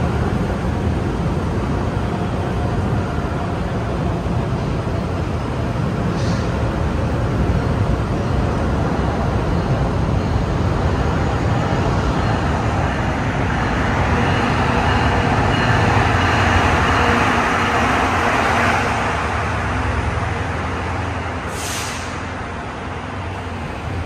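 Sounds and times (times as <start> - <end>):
train engine and wheel rumble: 0.0 - 24.0.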